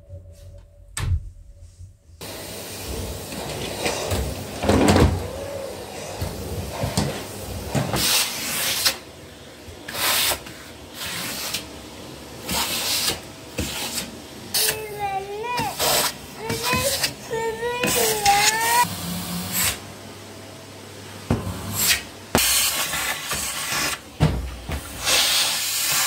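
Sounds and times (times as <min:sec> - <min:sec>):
vacuum cleaner suction hiss: 0:02.2 - 0:11.6, 0:12.4 - 0:19.9, 0:21.4 - 0:24.1, 0:24.7 - 0:26.0.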